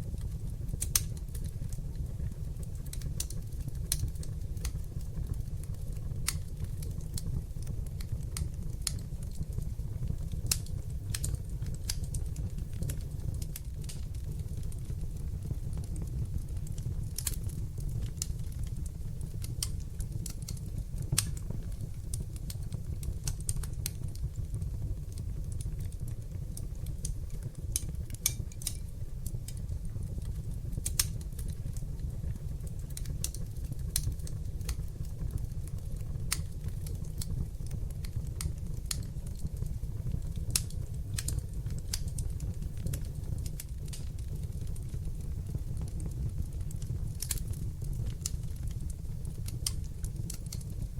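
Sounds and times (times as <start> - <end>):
fire crackles and pops: 0.0 - 50.9
fire flames rumbling: 0.0 - 50.9.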